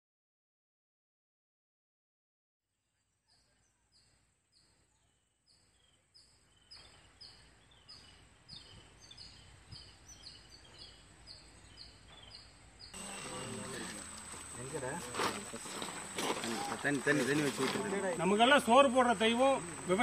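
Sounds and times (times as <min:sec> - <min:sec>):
faint outdoor noise: 0:02.7 - 0:20.0
bird chirping: 0:03.0 - 0:20.0.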